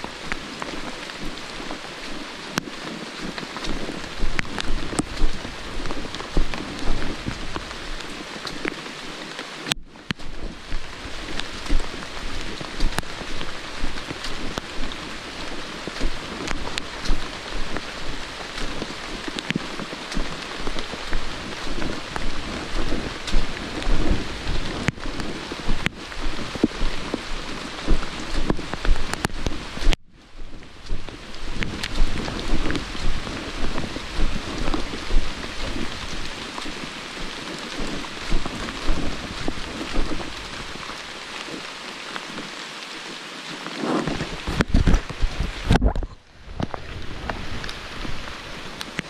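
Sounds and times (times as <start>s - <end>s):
raindrops clicking close by: 0.0s - 49.0s
steady rain falling: 0.0s - 49.0s.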